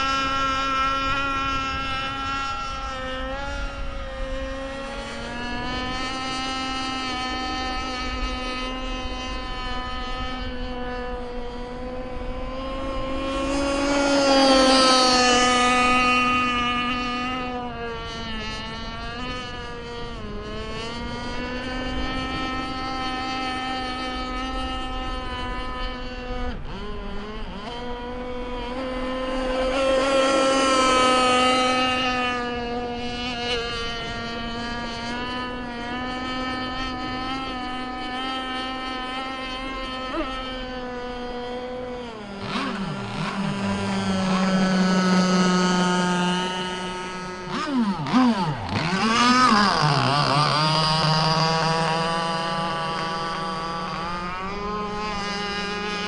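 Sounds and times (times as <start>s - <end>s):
model boat engine buzzing: 0.0s - 56.0s.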